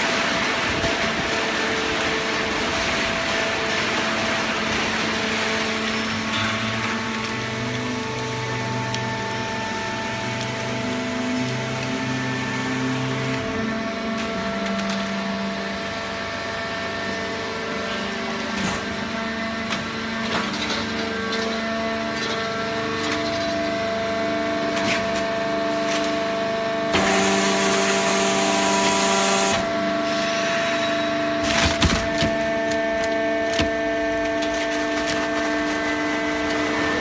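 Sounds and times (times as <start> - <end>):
baler machine hum: 0.0 - 37.0.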